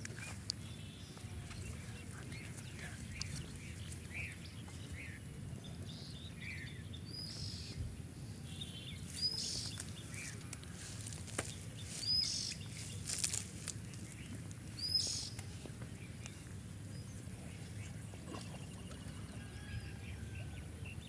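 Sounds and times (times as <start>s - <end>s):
birds chirping: 0.0s - 21.0s
low background noise: 0.0s - 21.0s.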